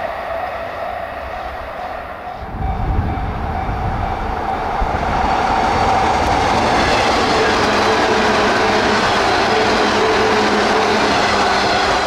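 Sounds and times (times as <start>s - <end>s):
deep train rumble: 0.0s - 12.0s
electric train running on rails: 0.0s - 12.0s.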